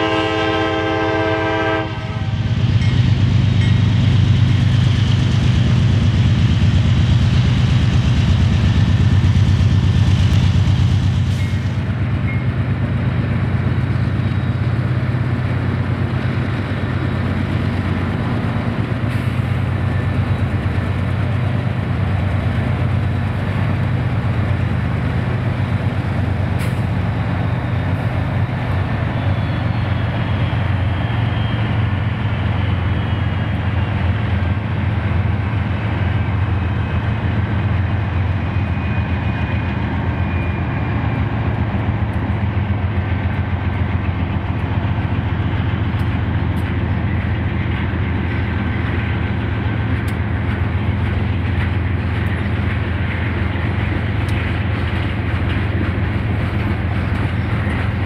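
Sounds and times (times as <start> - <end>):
diesel locomotives droning past: 0.0 - 58.0.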